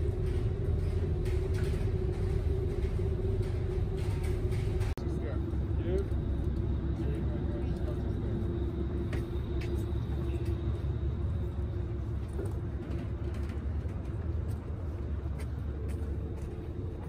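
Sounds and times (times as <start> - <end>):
ferry engines rumbling: 0.0 - 17.0.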